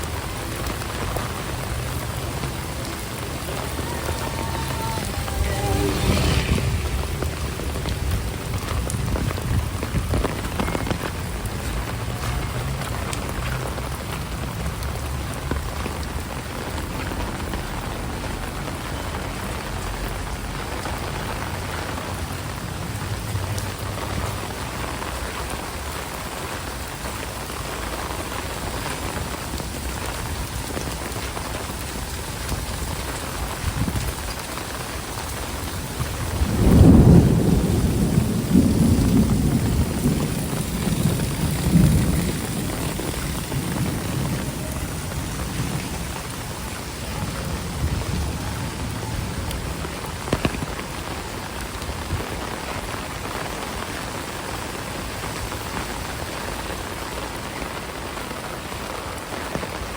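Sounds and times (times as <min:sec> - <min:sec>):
thunder rumbling: 0:00.0 - 0:26.0, 0:26.6 - 0:52.9
heavy rain: 0:00.0 - 0:59.9.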